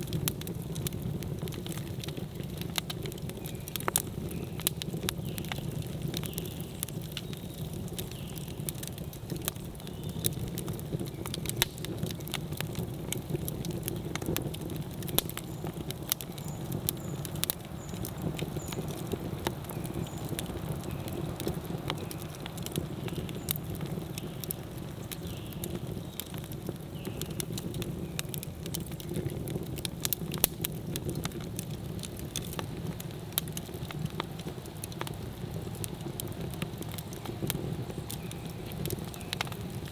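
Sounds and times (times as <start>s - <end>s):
fire crackles and pops: 0.0s - 39.9s
low roar of flames: 0.0s - 39.9s.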